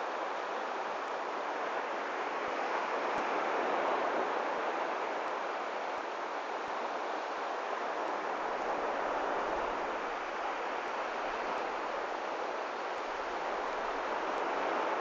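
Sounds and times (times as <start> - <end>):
sea surf washing onto beach: 0.0 - 15.0.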